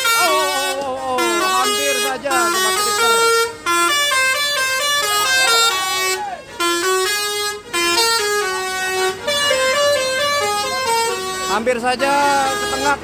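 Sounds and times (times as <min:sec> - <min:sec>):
musical bus air horn melody: 0:00.0 - 0:13.0.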